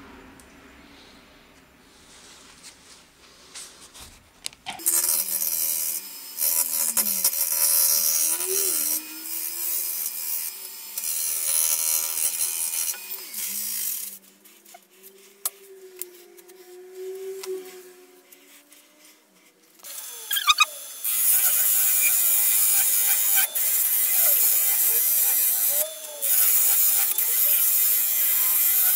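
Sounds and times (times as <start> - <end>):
turning tool scraping wood: 4.7 - 28.9
wood lathe motor whine: 4.8 - 28.9.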